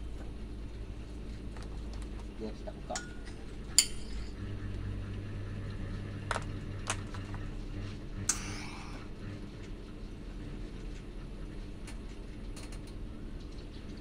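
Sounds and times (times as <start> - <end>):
welding hum: 0.0 - 14.0.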